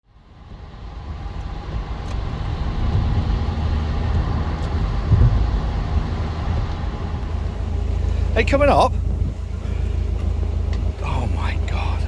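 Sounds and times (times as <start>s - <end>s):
boat diesel engine running: 0.2s - 12.0s.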